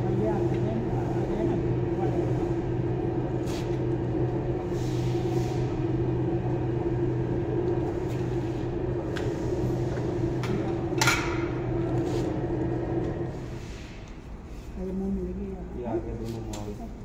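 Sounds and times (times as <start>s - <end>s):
bending machine humming: 0.0s - 13.6s.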